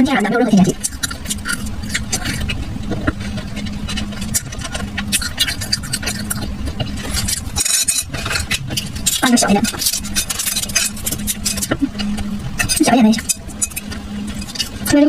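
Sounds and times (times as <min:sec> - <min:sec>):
low hum: 0:00.0 - 0:15.0
wet chewing and mouth clicks: 0:00.5 - 0:15.0.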